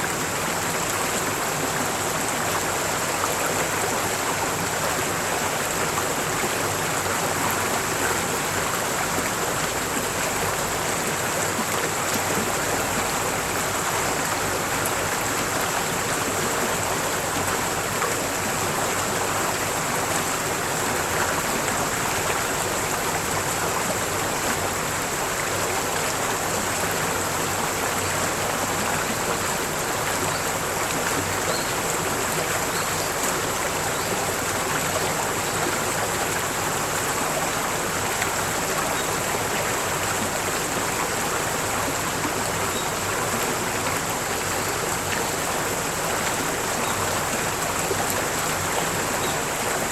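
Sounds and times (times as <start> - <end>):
stream flowing: 0.0 - 49.9.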